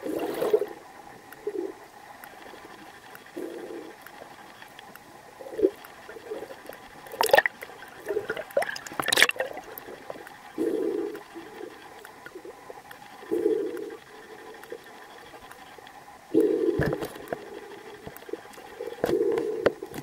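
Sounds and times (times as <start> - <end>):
underwater water churning: 0.0 - 20.0.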